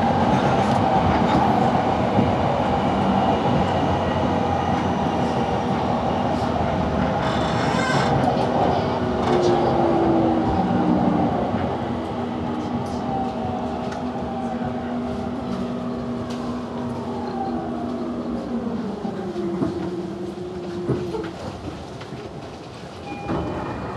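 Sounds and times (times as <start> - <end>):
rumble of train wheels: 0.0 - 23.9.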